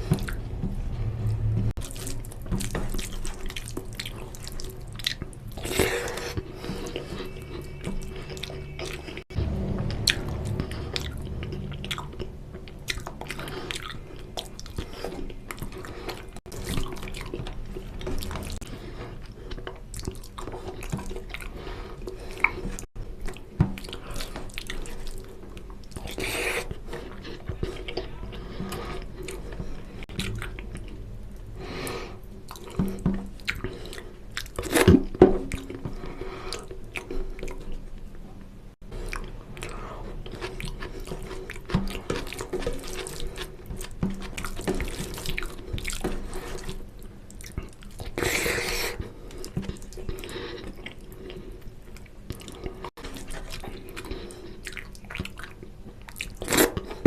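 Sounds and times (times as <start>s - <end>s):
close-up chewing and wet mouth sounds: 0.0s - 57.0s.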